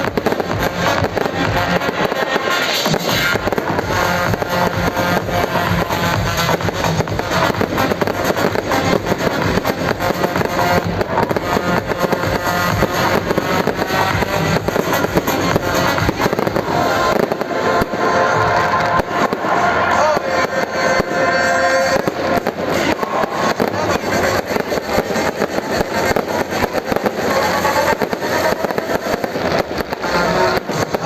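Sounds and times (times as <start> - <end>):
fireworks crackling and popping: 0.0 - 31.0
music playing: 0.0 - 31.0.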